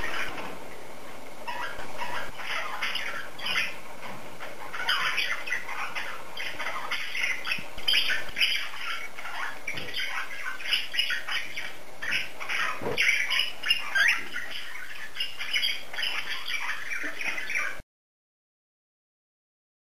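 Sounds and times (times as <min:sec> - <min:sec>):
cockatiels chirping and squawking: 0:00.0 - 0:00.6, 0:01.4 - 0:17.8.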